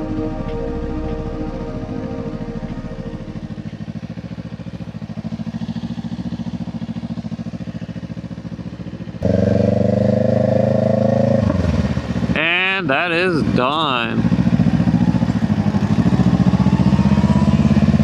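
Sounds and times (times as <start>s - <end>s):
motorcycle engine revving: 0.0s - 12.6s, 13.4s - 18.0s.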